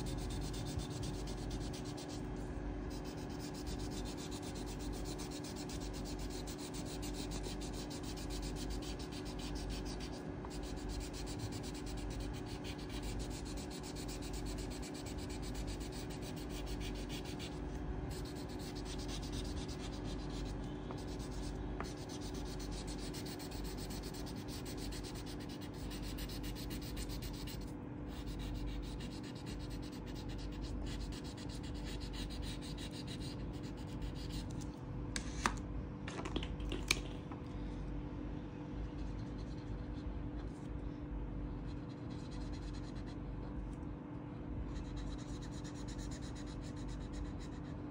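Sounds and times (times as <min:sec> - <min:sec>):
pencil scratching on paper: 0:00.0 - 0:34.5, 0:41.7 - 0:43.2, 0:44.8 - 0:47.8.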